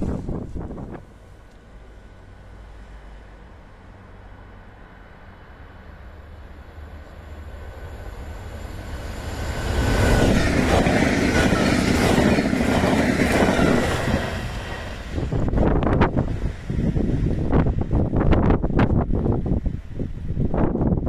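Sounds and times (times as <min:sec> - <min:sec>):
train passing at speed: 0:00.0 - 0:21.0
wheels rushing on rail: 0:00.0 - 0:21.0.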